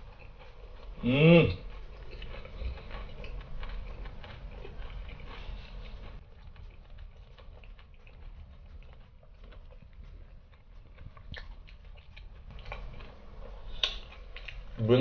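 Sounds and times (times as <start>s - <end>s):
person chewing crispy chicken: 0.0s - 15.0s.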